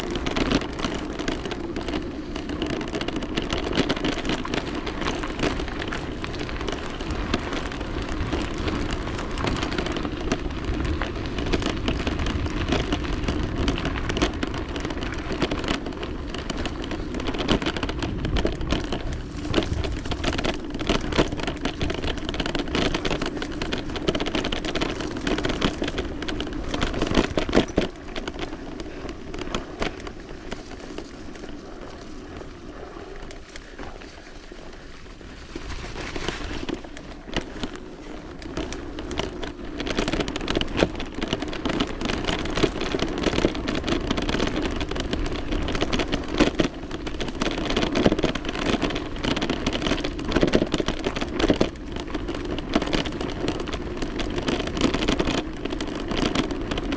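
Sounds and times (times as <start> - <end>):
bike and chain rattling: 0.0 - 56.9
bike tyres in mud: 0.0 - 56.9.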